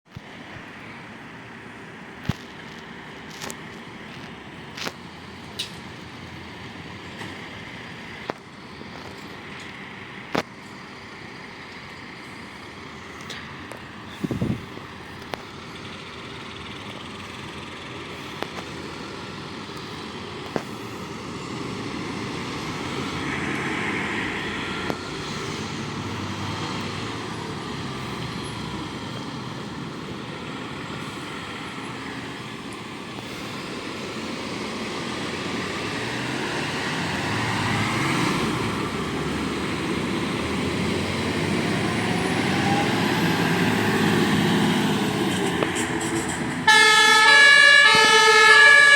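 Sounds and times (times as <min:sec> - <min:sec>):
vehicles driving by: 0:00.1 - 0:48.9.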